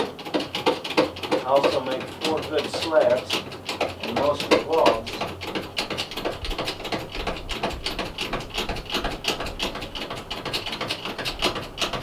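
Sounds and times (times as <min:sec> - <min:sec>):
rapid mechanical clicking: 0:00.0 - 0:12.0.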